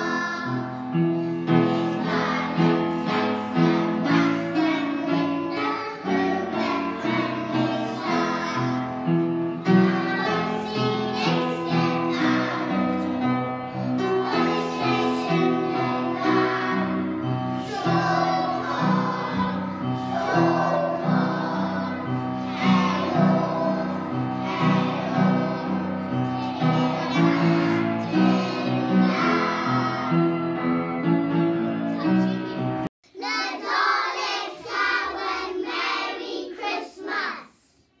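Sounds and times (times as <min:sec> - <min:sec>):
children's voices: 0:00.0 - 0:09.0, 0:09.7 - 0:30.3, 0:31.9 - 0:38.0
children singing: 0:00.0 - 0:30.8, 0:33.1 - 0:37.8
instrumental accompaniment: 0:00.0 - 0:32.9.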